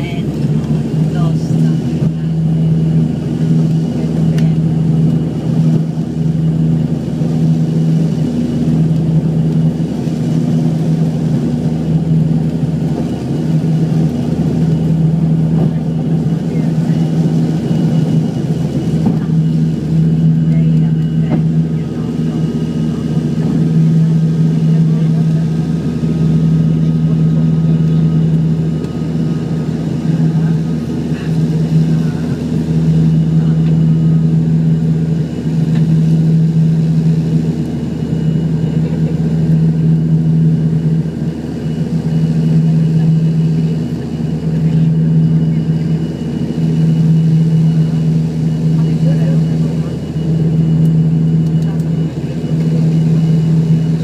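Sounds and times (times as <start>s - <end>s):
deep rumble: 0.0s - 54.0s
turboprop engines propeller drone: 0.0s - 54.0s.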